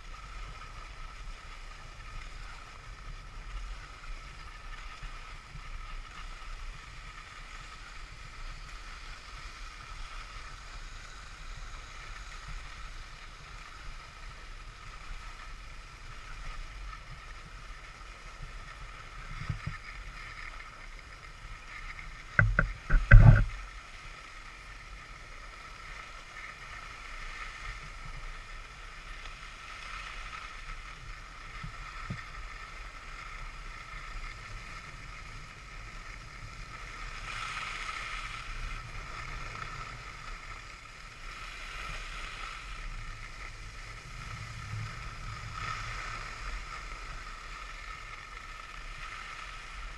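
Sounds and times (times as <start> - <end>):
skis scraping on snow: 0.0 - 49.9.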